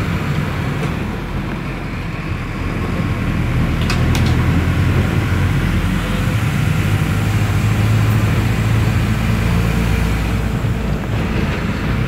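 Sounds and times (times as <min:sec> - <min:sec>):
low engine drone: 0:00.0 - 0:12.0
road and air rush: 0:00.0 - 0:12.0.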